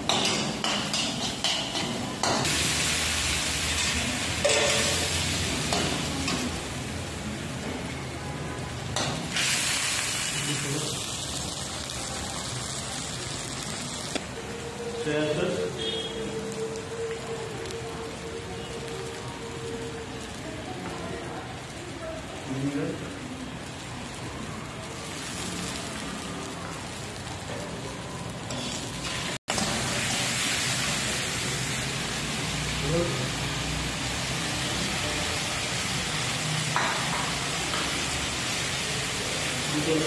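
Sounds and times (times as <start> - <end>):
food sizzling in a wok: 0.0 - 40.0.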